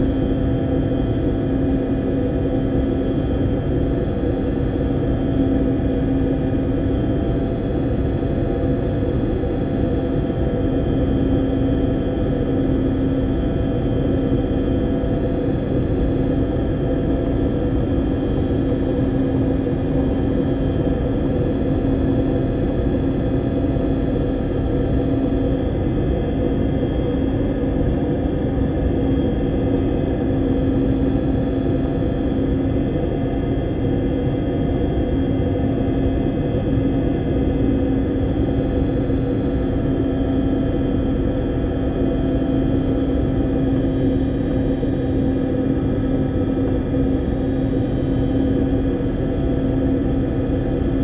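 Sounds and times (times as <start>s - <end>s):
airliner cabin drone: 0.0s - 51.0s.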